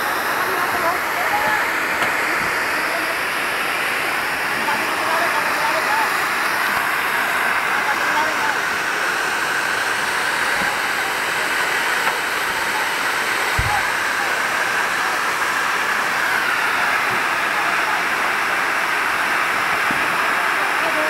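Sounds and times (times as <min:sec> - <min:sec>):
fire rushing: 0:00.0 - 0:21.0.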